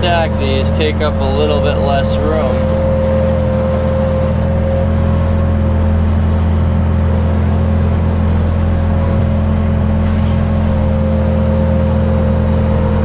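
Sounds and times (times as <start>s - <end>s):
loader engine running: 0.0s - 13.0s
steady high whine: 0.0s - 13.0s.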